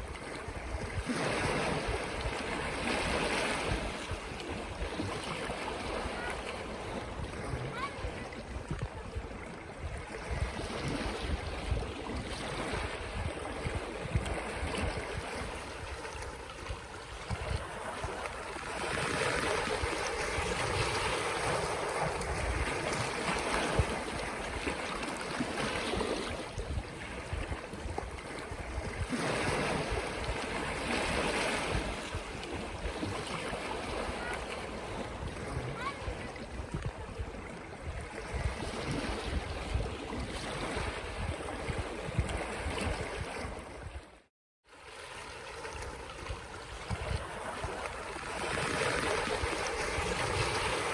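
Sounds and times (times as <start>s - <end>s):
sea water washing against shore: 0.0s - 44.1s, 44.7s - 50.9s
wind rumble on microphone: 0.0s - 44.2s, 45.2s - 50.9s.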